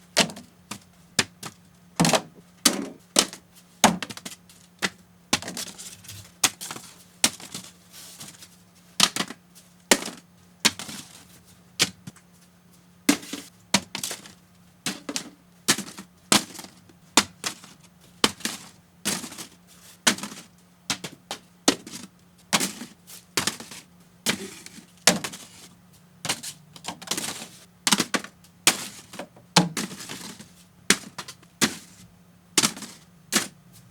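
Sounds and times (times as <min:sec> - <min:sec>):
faint steady hum: 0:00.0 - 0:33.9
paper airplanes tapping fridge: 0:00.1 - 0:12.3, 0:13.1 - 0:33.9.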